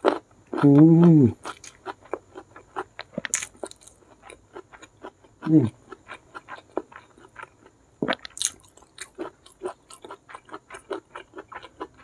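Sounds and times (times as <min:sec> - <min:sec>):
close chewing and mouth smacks: 0:00.0 - 0:12.0.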